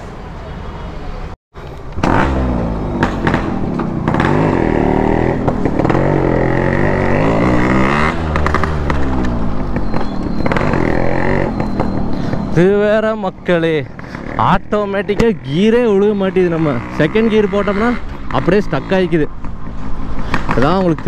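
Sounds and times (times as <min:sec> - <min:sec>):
motorcycle engine revving: 0:01.9 - 0:19.2.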